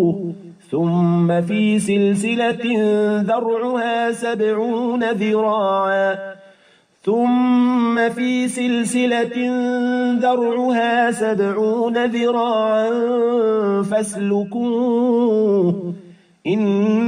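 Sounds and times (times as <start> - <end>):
man reciting in melodic chant: 0.0 - 17.0.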